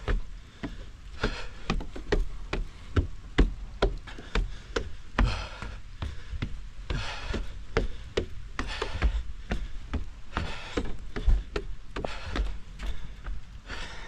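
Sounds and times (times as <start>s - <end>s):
footsteps on wooden stairs: 0.0s - 14.0s
hard breathing: 0.0s - 14.0s.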